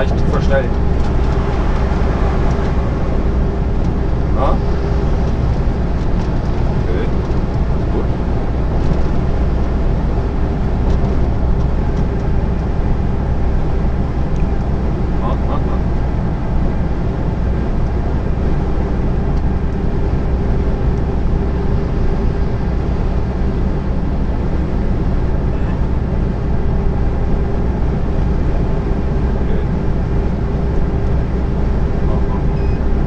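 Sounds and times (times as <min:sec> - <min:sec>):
diesel engine drone: 0:00.0 - 0:33.0
steady hum: 0:00.0 - 0:33.0
wind noise: 0:00.0 - 0:33.0.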